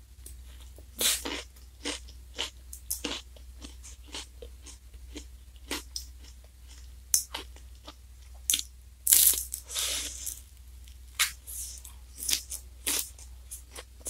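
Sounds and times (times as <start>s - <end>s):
crunching wafer cone: 0.5s - 13.9s.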